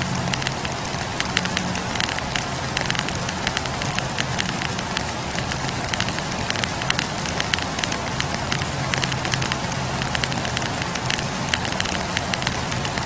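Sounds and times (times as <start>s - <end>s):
flames hissing: 0.0s - 13.0s
logs crackling and popping: 0.0s - 13.0s.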